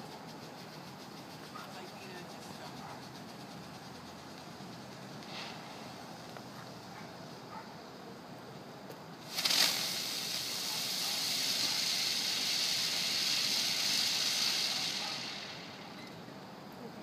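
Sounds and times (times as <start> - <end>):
ground firework hissing: 0.0 - 7.5, 9.1 - 17.0.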